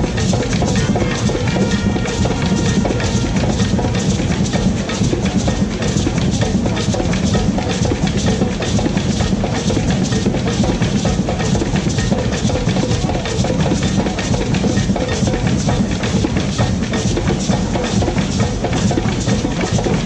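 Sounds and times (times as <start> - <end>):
drum kit and percussion beat: 0.0 - 20.0.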